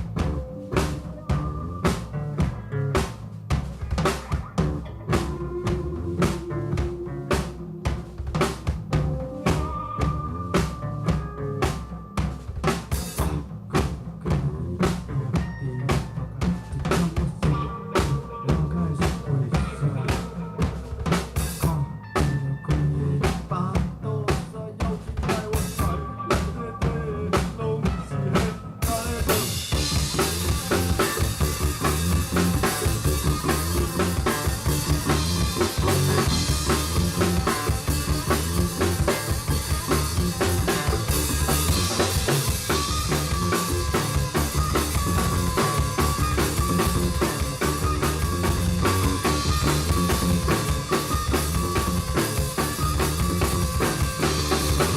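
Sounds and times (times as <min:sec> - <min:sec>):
bass: 0:00.0 - 0:54.9
drum kit: 0:00.0 - 0:54.9
live band playing: 0:00.0 - 0:54.9.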